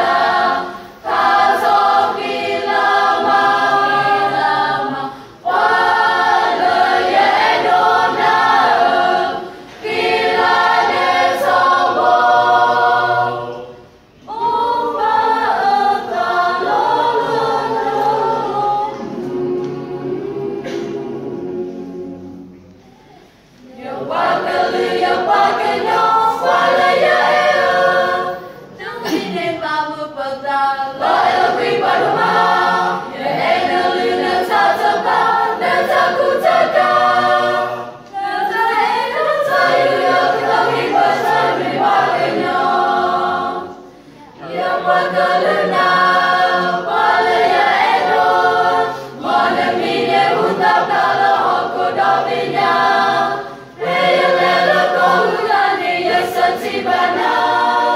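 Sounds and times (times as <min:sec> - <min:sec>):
choir singing unaccompanied: 0:00.0 - 0:57.9.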